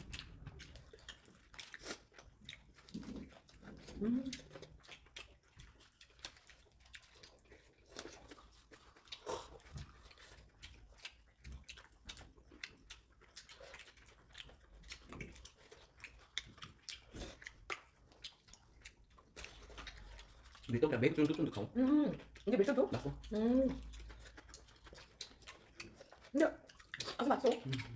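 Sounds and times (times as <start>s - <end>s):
people chewing: 0.0s - 27.9s.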